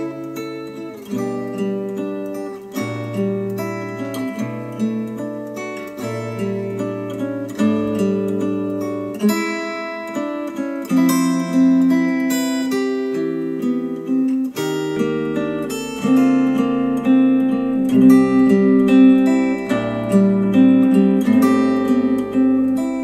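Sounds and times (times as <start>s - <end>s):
acoustic guitar music over speakers: 0.0s - 23.0s.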